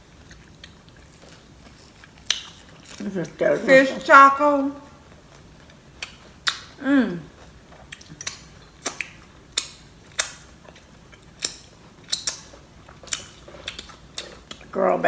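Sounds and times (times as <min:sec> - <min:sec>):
wet chewing and mouth smacking: 0:00.1 - 0:03.5, 0:05.0 - 0:14.8.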